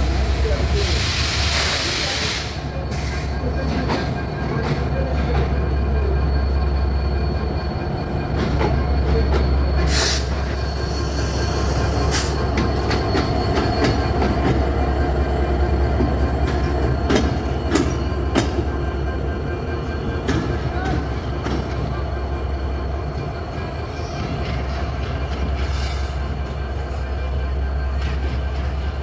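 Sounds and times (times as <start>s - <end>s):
diesel locomotive engine humming: 0.0s - 29.0s.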